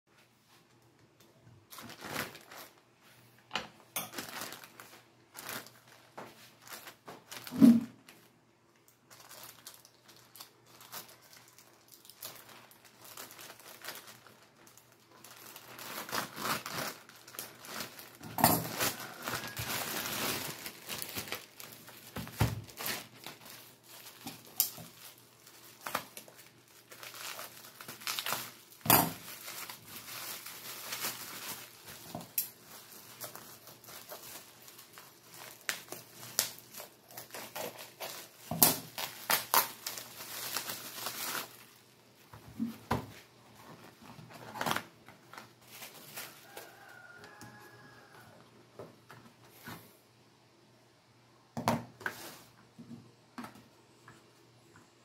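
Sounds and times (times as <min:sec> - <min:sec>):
bubble wrap crinkling: 0:01.0 - 0:48.5
plastic bag crinkling: 0:01.6 - 0:03.2, 0:03.8 - 0:48.3.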